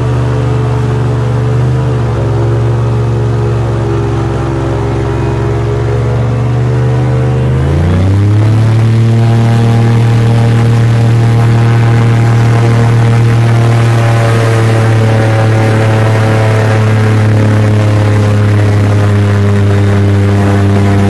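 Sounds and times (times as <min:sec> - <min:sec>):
airboat engine and propeller revving: 0:00.0 - 0:21.0.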